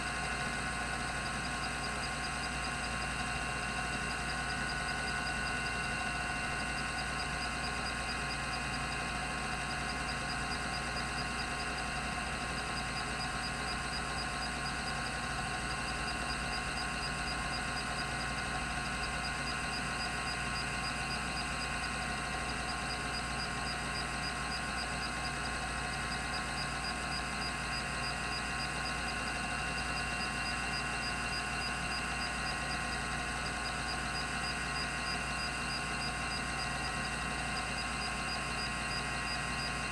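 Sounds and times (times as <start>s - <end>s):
hard drive humming: 0.0s - 39.9s.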